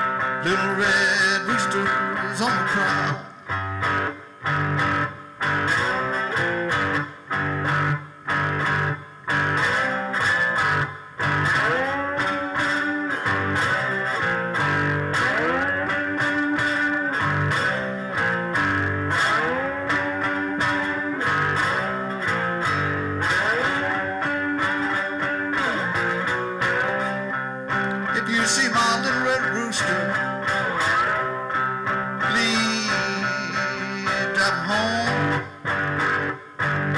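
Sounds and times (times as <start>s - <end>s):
slide guitar blues: 0.0s - 36.9s.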